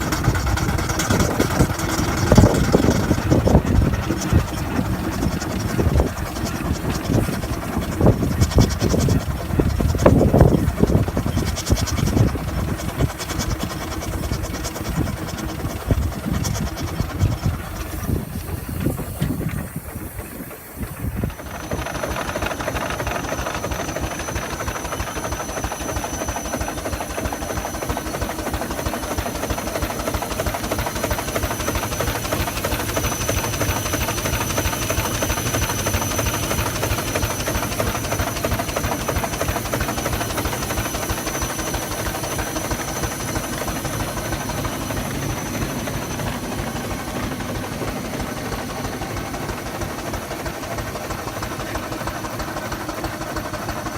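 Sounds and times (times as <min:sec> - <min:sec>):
steam engine mechanical beat: 0:00.0 - 0:53.9
steam hiss: 0:09.9 - 0:53.9.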